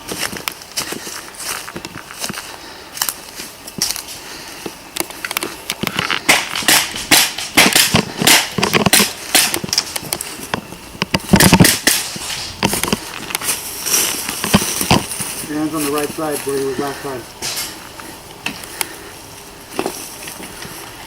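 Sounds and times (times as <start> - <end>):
sharp cracks and rustling crackles: 0.0 - 21.0.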